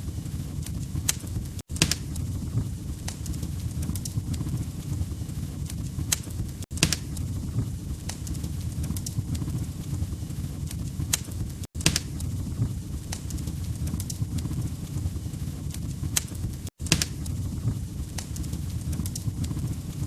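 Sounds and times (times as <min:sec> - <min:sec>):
log fire crackling: 0:00.0 - 0:20.0
low rumble of flames: 0:00.0 - 0:20.0.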